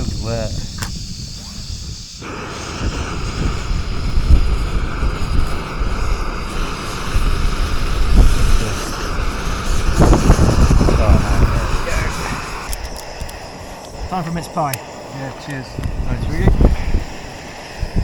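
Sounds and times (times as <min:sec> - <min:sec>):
camping stove burner roaring hiss: 0:00.0 - 0:18.0.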